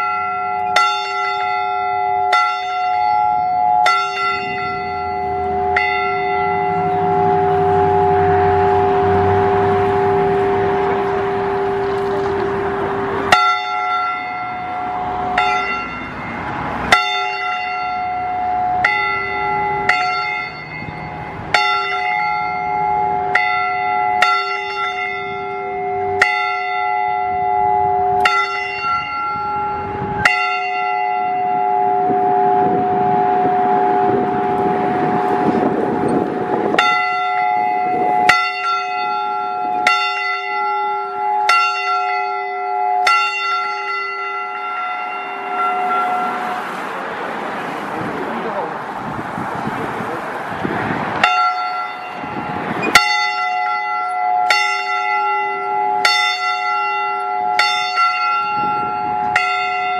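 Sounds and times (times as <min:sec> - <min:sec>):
church bell tolling: 0:00.0 - 0:47.0, 0:51.1 - 0:59.9.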